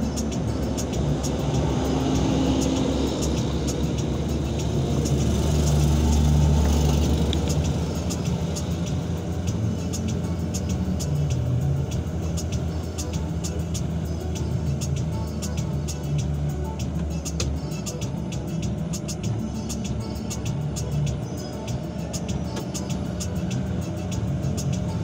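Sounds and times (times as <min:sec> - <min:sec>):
oncoming truck passing: 0:00.0 - 0:25.0
road rumble: 0:00.0 - 0:25.0
truck engine drone: 0:00.0 - 0:25.0.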